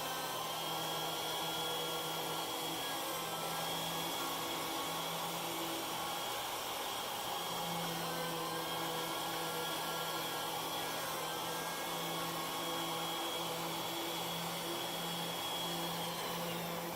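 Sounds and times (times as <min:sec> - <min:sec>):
wood router milling: 0:00.0 - 0:16.9.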